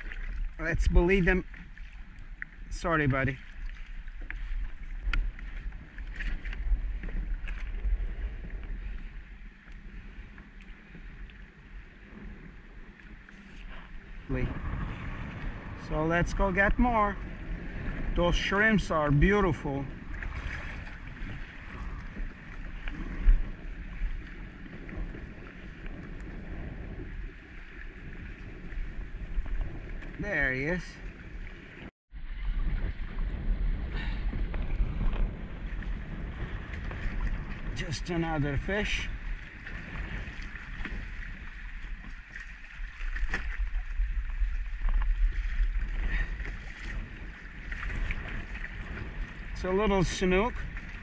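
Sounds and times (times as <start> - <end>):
water slapping against hull: 0.0 - 51.0
wind buffeting microphone: 0.0 - 51.0.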